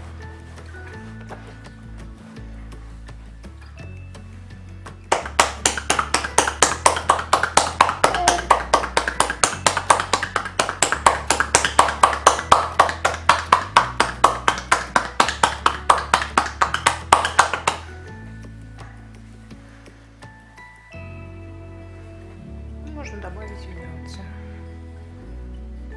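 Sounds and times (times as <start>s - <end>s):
cupped palms clapping on back: 0.0s - 21.3s.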